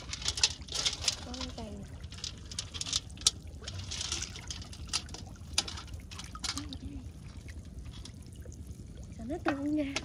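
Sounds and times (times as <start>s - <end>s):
shallow water sloshing and splashing: 0.0s - 10.0s.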